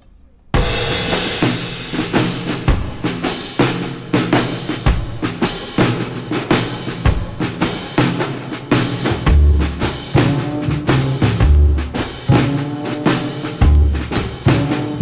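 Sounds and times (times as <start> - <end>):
background music with drum beat: 0.6 - 15.0.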